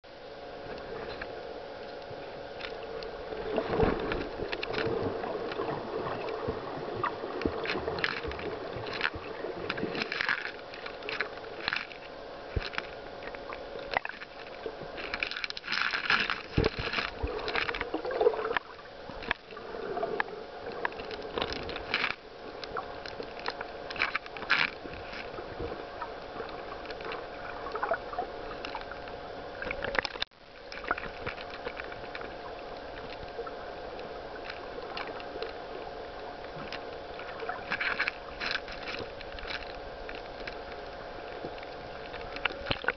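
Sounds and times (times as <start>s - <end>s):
faint steady hum: 0.0s - 42.9s
muffled underwater sloshing: 0.0s - 42.9s
clicks and crackles: 0.7s - 42.9s.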